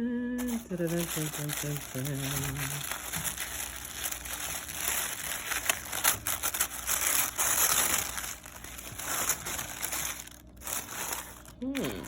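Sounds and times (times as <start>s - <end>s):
packaging crinkling: 0.4s - 12.0s.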